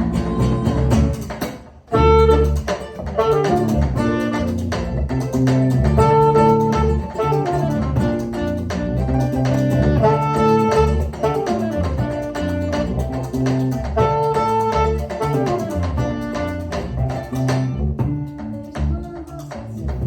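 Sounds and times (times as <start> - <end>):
bass line: 0.0 - 20.0
live band guitar passage: 0.0 - 20.0.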